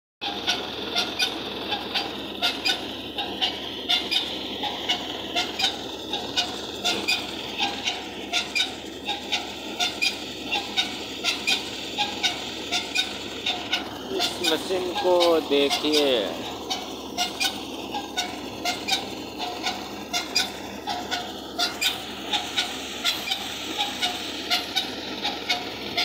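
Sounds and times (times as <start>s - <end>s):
thresher running under load: 0.2s - 26.0s.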